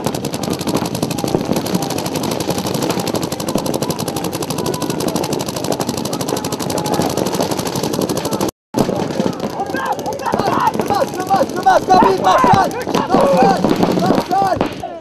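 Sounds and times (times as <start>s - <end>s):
paintball markers firing rapidly: 0.0s - 15.0s.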